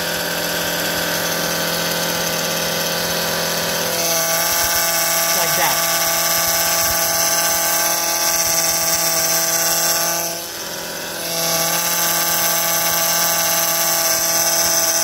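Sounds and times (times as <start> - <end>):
power steering pump whining: 0.0 - 15.0.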